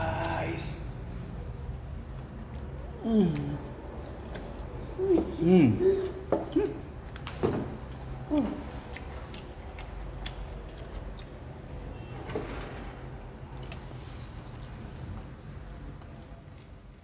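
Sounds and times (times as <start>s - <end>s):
people chewing fries: 0.0s - 12.1s, 13.0s - 17.0s.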